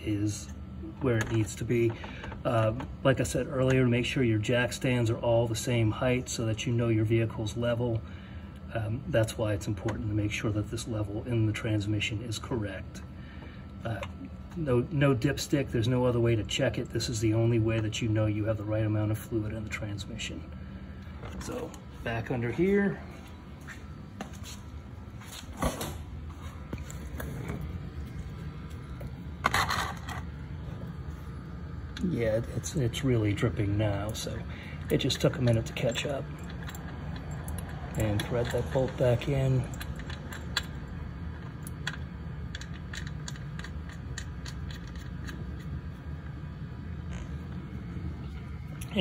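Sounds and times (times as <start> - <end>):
low steady rumble: 0.0 - 49.0
steady low hum: 0.0 - 49.0.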